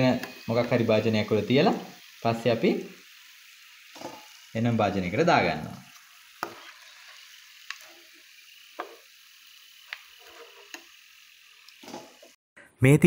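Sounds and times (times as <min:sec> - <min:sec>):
hot oil sizzling in a frying pan: 0:00.0 - 0:12.4.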